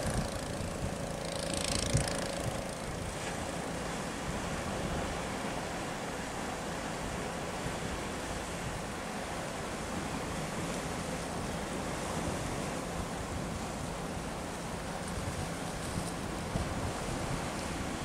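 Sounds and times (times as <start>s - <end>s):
faint outboard motor humming: 0.0s - 18.0s
wind: 0.0s - 18.0s.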